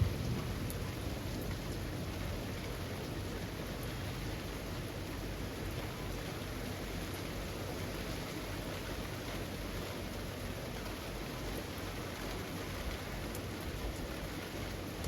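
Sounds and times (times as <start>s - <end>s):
rain falling through trees: 0.0s - 15.0s.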